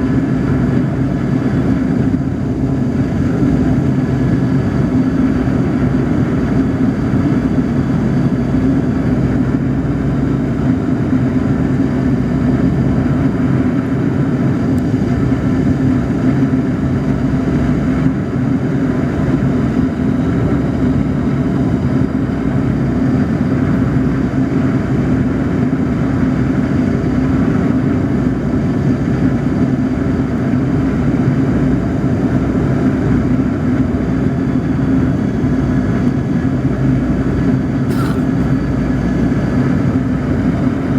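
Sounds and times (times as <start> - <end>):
jet airliner cabin drone: 0.0 - 40.9.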